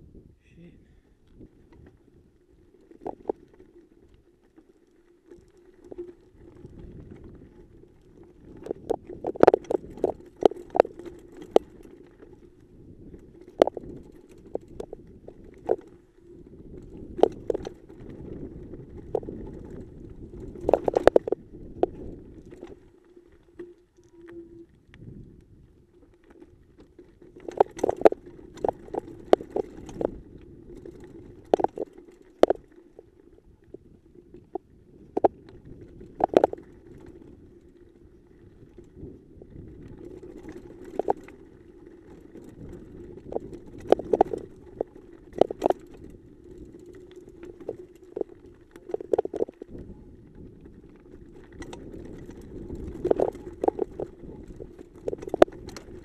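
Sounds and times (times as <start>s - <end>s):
bike tyres rumbling over gravel: 1.1s - 56.0s.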